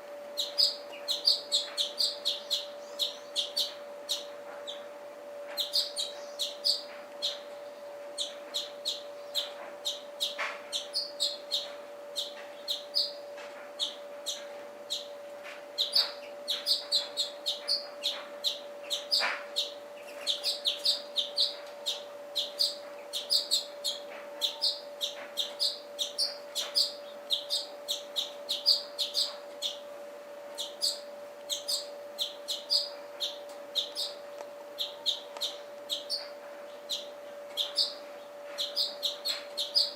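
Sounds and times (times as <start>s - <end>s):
steady low hum: 0.0s - 39.9s
small birds chirping: 0.3s - 29.9s, 30.5s - 39.9s.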